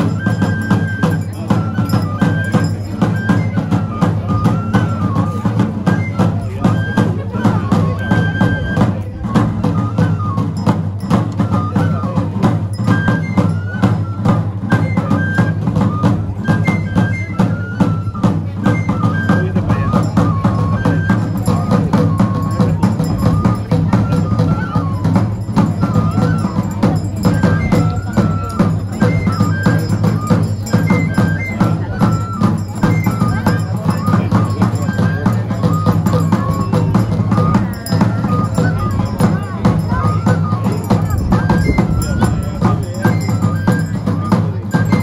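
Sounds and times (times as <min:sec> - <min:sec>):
high melody: 0:00.0 - 0:45.0
large hand drums: 0:00.0 - 0:45.0.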